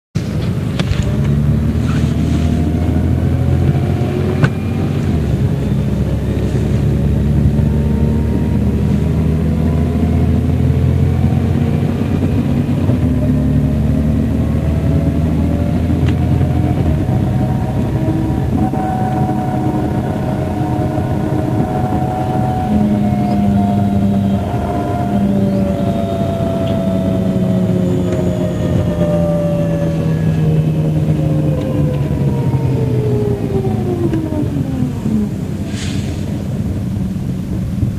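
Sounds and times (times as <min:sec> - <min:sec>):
bus diesel engine running: 0:00.2 - 0:37.9
whine climbing in pitch: 0:00.5 - 0:35.7.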